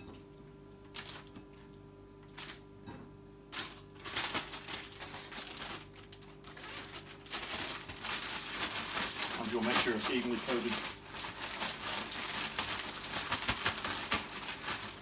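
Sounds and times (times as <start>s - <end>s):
faint steady hum: 0.0s - 15.0s
plastic bag rustling: 0.9s - 1.4s, 2.3s - 2.7s, 3.5s - 15.0s.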